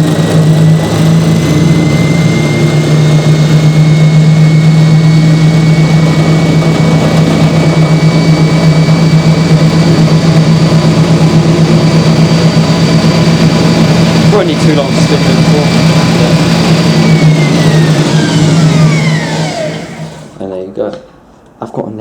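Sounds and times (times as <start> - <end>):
spin dryer low hum and whine: 0.0 - 20.6.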